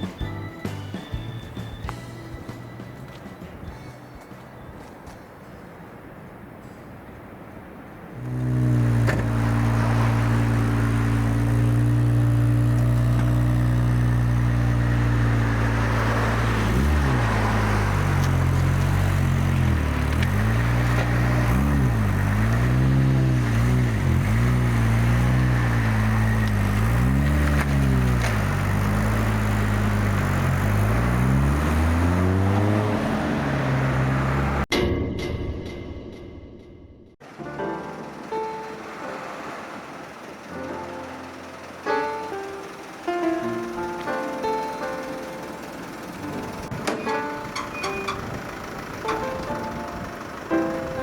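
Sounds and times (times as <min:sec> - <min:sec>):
car engine humming: 0:05.3 - 0:34.7, 0:37.2 - 0:51.0.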